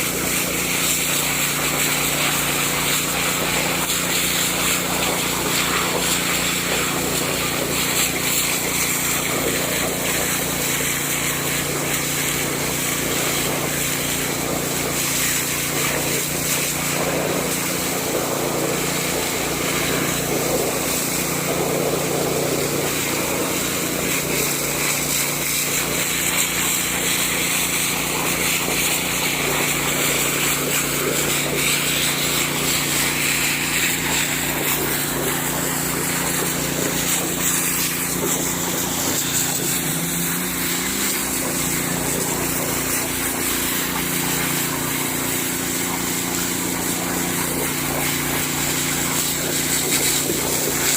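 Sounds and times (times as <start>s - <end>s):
petrol water pump running: 0.0s - 50.9s.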